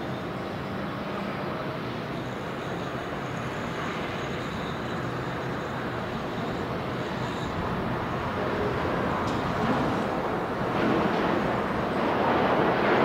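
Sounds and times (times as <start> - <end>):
ship engine drone: 0.0 - 13.0.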